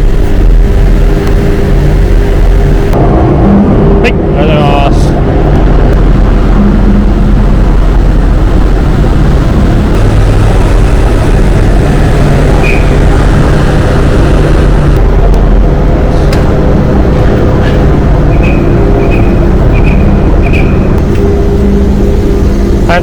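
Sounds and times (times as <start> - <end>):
ferry engines droning: 0.0 - 23.0.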